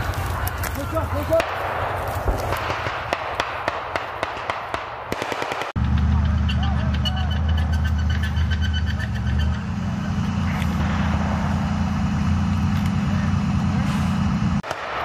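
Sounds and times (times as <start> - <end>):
diesel engine rumbling: 0.0 - 3.6, 5.4 - 15.0.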